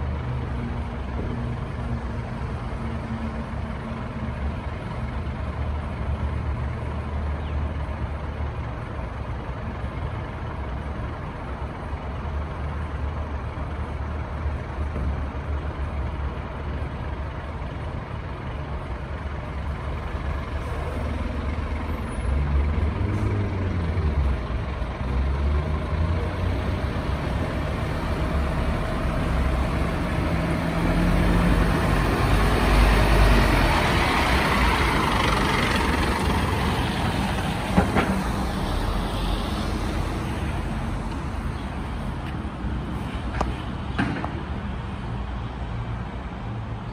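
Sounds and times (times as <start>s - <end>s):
fire engine diesel engine: 0.0s - 46.9s.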